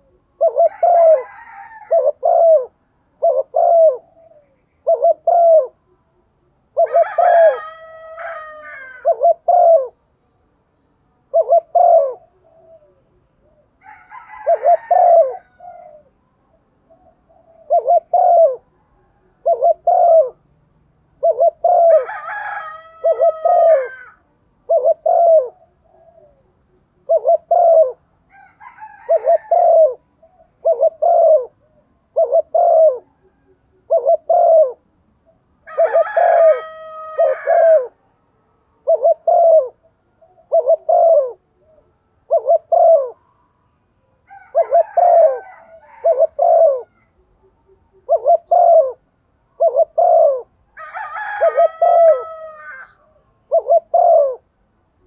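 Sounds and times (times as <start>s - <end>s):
dove cooing: 0.0s - 10.0s, 11.3s - 38.0s, 38.8s - 43.4s, 44.2s - 54.7s.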